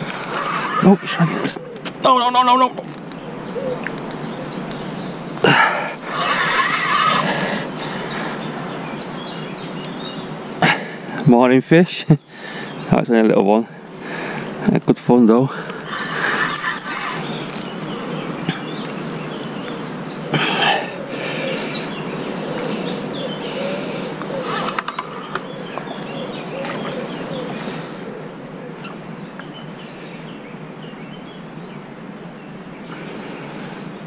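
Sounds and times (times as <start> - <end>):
birds chirping: 0.0 - 34.0
outdoor background noise: 0.0 - 34.0.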